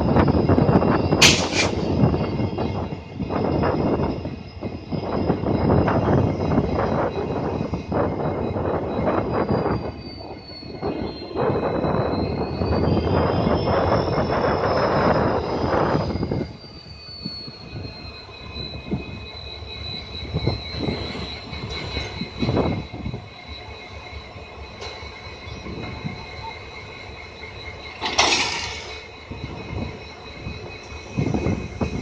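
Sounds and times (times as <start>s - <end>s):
train rumbling on rails: 0.0s - 32.0s
wheels squealing on rail: 0.0s - 32.0s.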